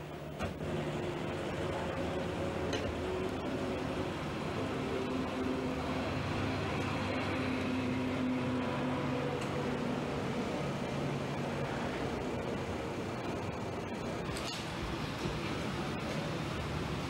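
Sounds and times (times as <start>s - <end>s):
hum of vehicle engines: 0.0s - 17.0s.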